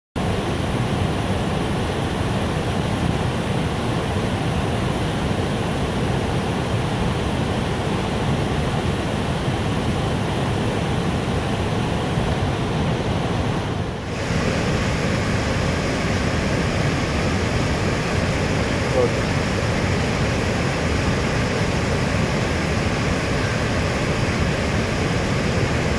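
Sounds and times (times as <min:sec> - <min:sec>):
waterfall rushing: 0:00.2 - 0:25.9.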